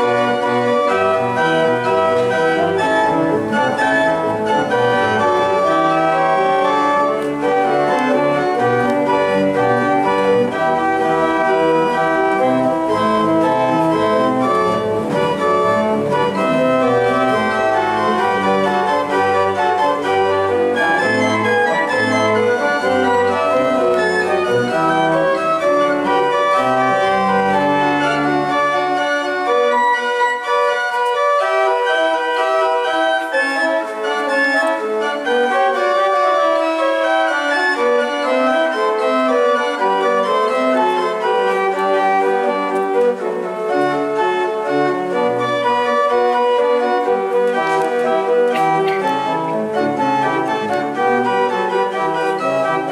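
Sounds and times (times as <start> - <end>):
organ bass line: 0.0 - 52.9
organ chords: 0.0 - 52.9.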